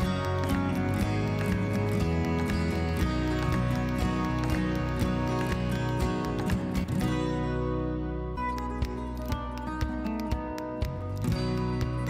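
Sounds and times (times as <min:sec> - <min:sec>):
instrumental music chords: 0:00.0 - 0:12.0.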